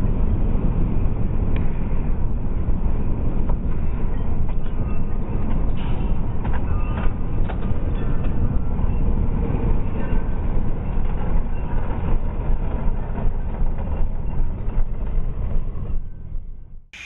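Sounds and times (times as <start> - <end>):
road noise: 0.0 - 15.9.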